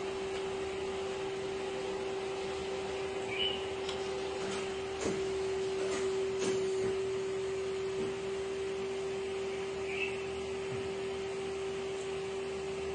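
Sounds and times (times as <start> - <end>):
spinning machine humming: 0.0 - 12.9.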